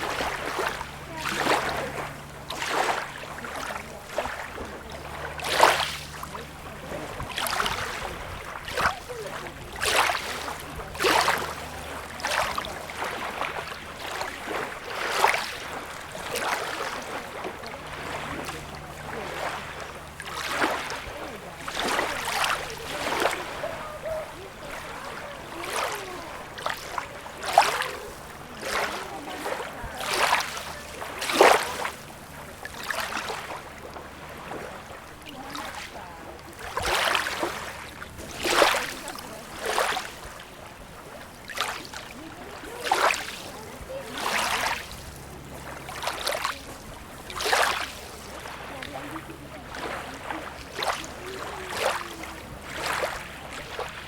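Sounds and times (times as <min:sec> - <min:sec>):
small waves lapping at shore: 0:00.0 - 0:54.0.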